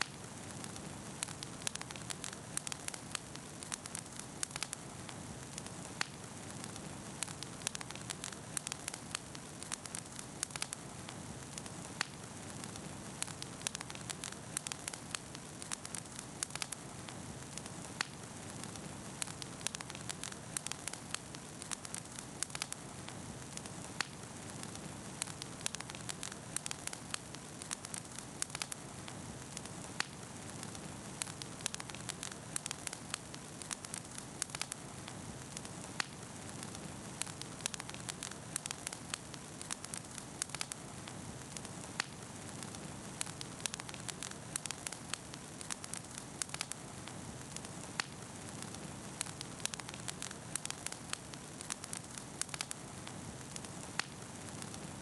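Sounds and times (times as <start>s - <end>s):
bonfire crackling and popping: 0.0s - 55.0s.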